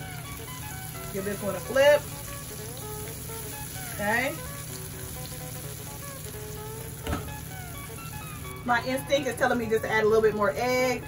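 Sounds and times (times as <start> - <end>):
cauliflower deep-frying in oil: 0.0 - 11.0.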